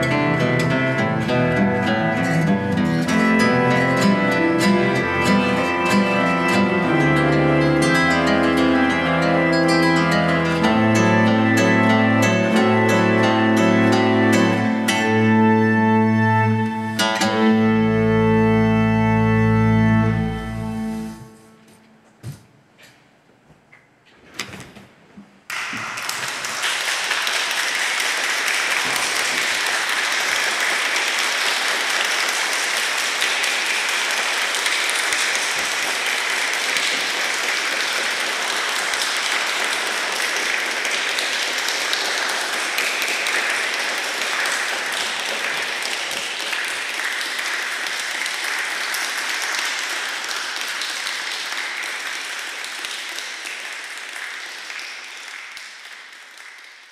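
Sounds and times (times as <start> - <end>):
audience applause: 0.0 - 21.2, 25.5 - 56.9.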